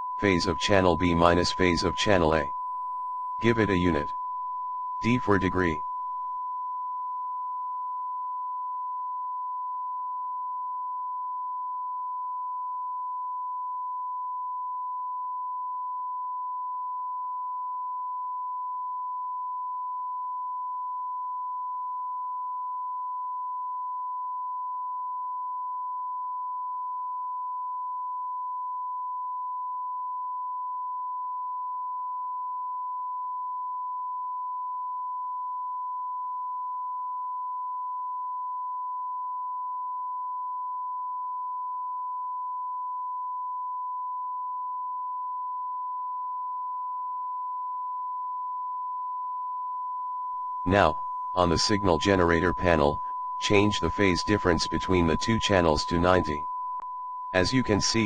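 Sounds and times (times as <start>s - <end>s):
sine-wave test tone: 0.0s - 58.0s.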